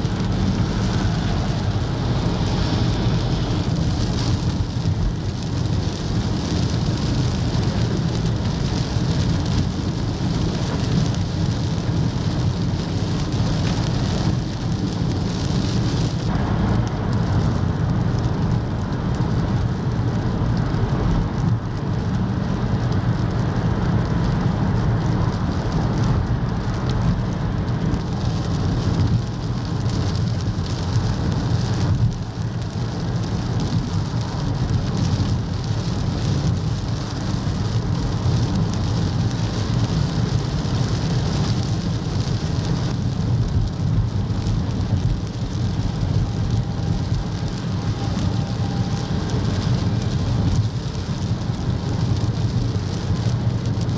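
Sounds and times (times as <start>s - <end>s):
heavy rain on a car: 0.0s - 53.9s
tyre and road rumble: 0.0s - 53.9s.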